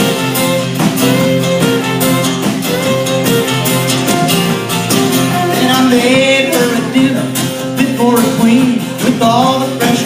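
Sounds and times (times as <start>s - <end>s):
live country band playing: 0.0s - 10.0s.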